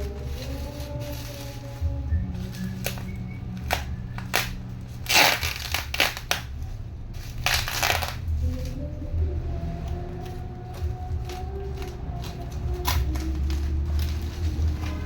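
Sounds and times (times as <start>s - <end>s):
plastic crinkling and tearing: 0.0s - 15.0s.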